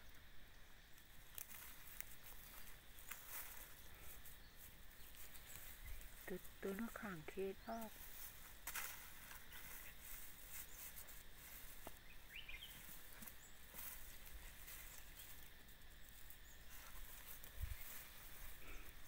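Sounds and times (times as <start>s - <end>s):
faint bird chirps: 1.7s - 8.6s, 9.2s - 19.0s.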